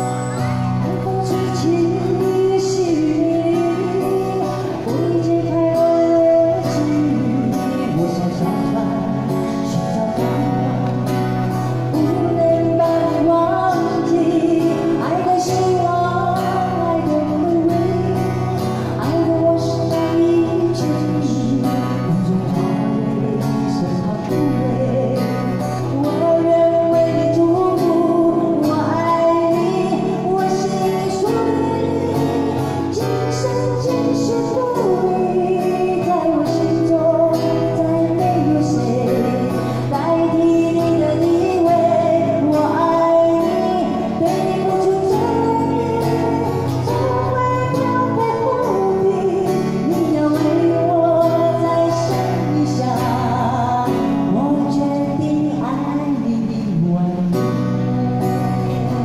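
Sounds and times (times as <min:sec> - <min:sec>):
acoustic guitar: 0:00.0 - 0:59.0
woman singing into microphone: 0:00.0 - 0:59.0.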